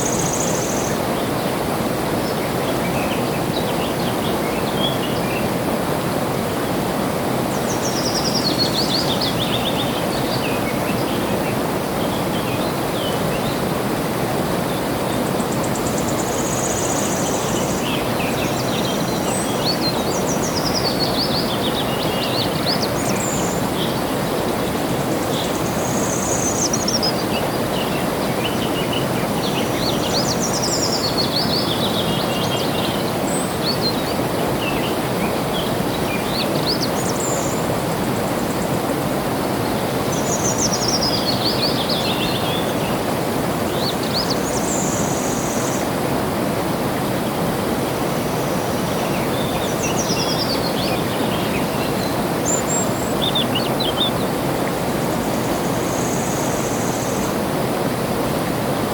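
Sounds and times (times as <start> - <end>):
flowing water: 0.0 - 58.9.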